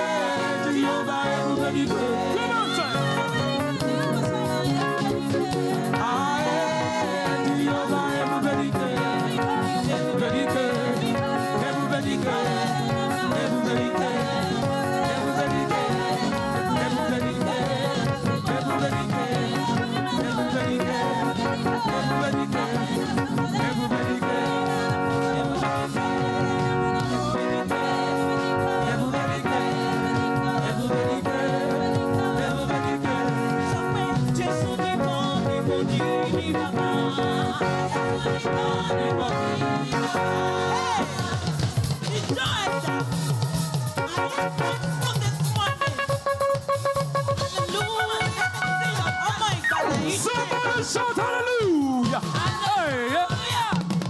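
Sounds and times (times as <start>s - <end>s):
church band playing: 0.0s - 54.0s
people singing: 0.0s - 54.0s.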